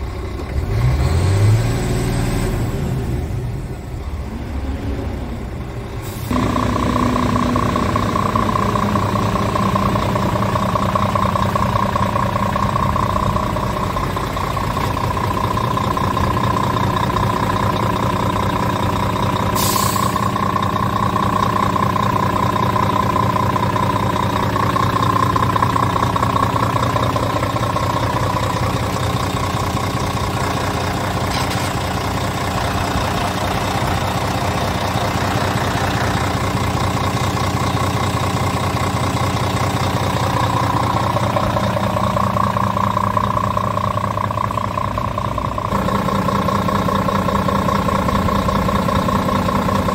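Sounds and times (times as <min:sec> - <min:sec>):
diesel engine idling: 0:00.0 - 0:01.6, 0:02.3 - 0:49.9.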